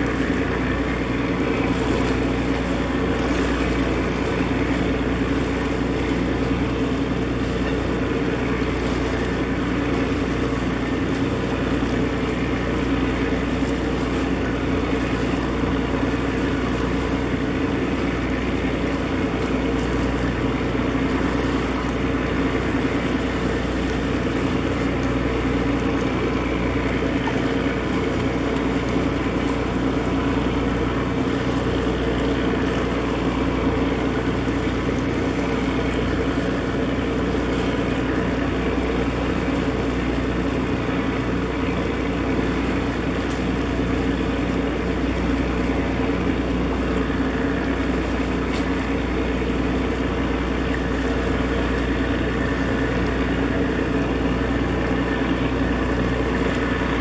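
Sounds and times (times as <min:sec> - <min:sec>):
ship engine droning: 0:00.0 - 0:57.0.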